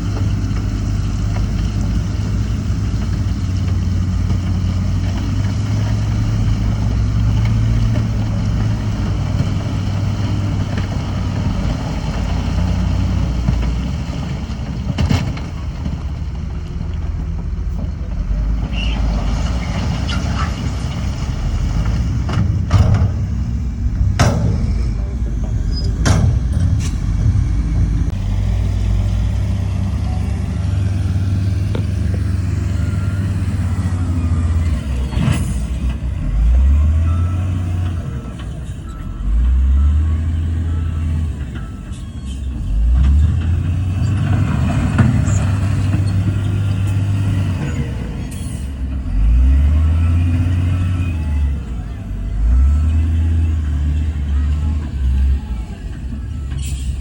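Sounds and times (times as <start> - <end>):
heavy diesel engine: 0.0 - 57.0.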